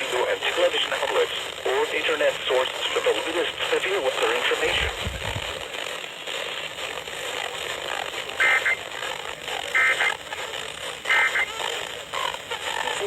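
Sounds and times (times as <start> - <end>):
buzzy data bursts: 0.0 - 13.0
radio static: 0.0 - 13.0.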